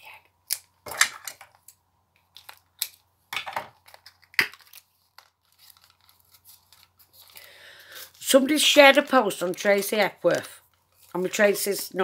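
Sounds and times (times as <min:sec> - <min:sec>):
sweet packet crinkling: 0:01.6 - 0:03.1, 0:03.7 - 0:12.0.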